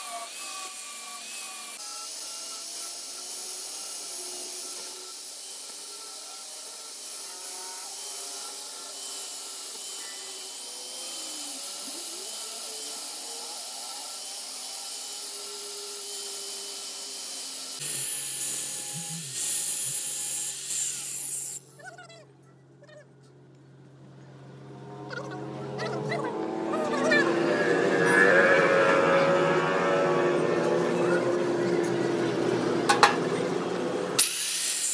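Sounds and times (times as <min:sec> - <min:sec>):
angle grinder grinding steel: 0:00.0 - 0:21.8, 0:26.0 - 0:34.9.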